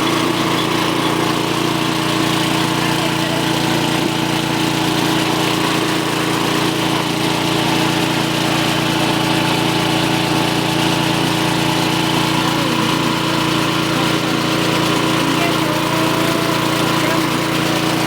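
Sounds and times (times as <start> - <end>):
small diesel engine running: 0.0 - 18.0.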